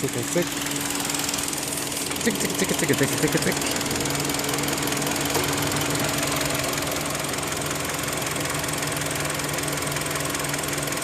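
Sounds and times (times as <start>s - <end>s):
car engine running with ticking: 0.0s - 11.0s.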